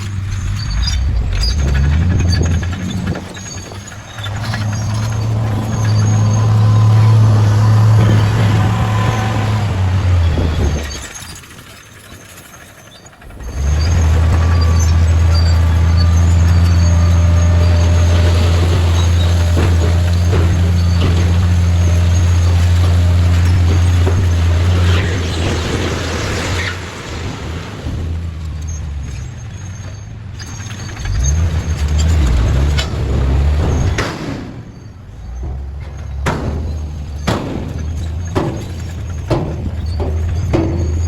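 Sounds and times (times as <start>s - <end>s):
bulldozer diesel engine droning: 0.0s - 41.0s.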